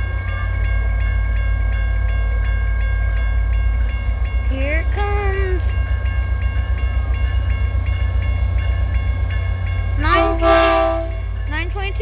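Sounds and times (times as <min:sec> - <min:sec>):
train cars rumbling: 0:00.0 - 0:12.0.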